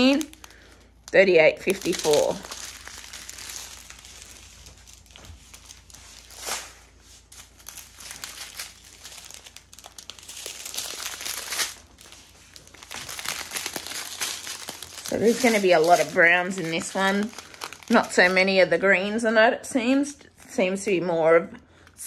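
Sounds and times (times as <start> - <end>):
plastic bags crinkling: 0.0 - 18.8.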